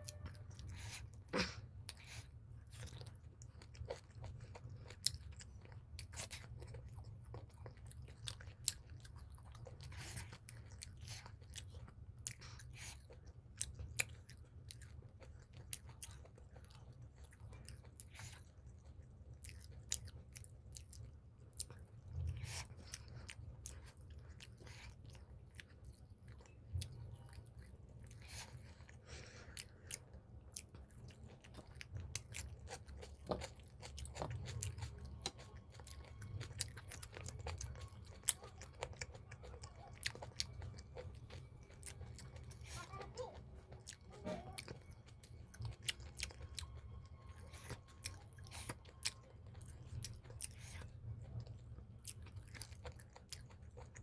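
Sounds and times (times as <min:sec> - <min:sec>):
man chewing with wet mouth clicks: 0:00.0 - 0:42.6, 0:43.7 - 0:54.0.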